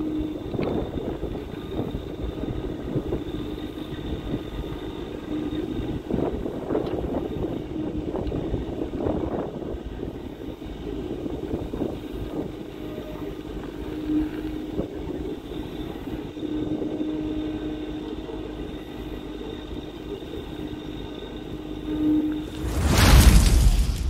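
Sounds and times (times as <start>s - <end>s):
thin whine: 0.0s - 24.0s.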